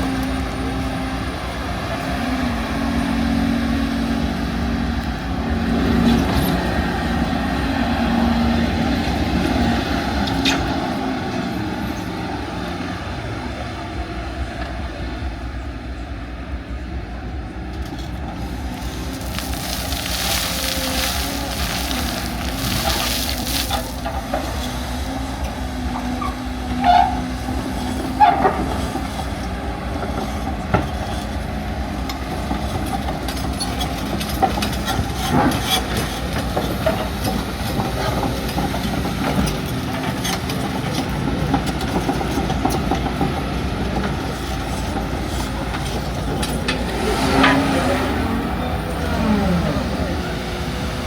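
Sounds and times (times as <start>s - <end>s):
excavator diesel engine: 0.0s - 51.0s.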